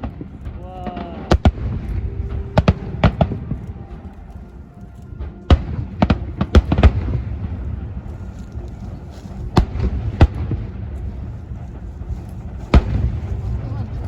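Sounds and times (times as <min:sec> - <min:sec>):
fireworks bangs: 0:00.0 - 0:04.0, 0:05.2 - 0:14.0
low rumble of bursts: 0:00.0 - 0:14.0.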